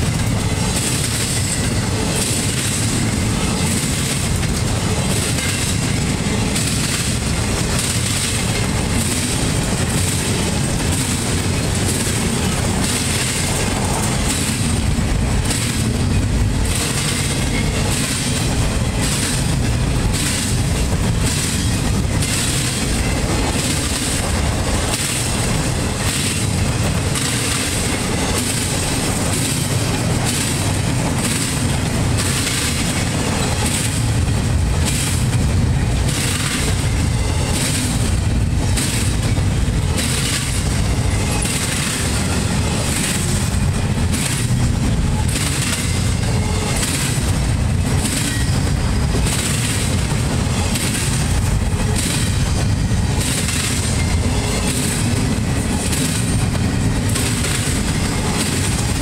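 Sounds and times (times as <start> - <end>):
wheels clacking over track: 0.0 - 59.0.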